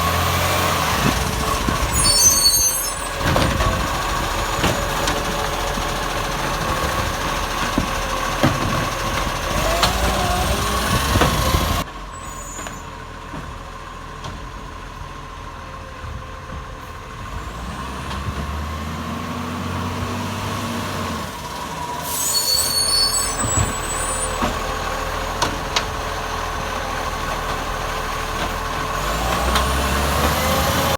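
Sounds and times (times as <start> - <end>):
garbage truck engine running: 0.0 - 30.9.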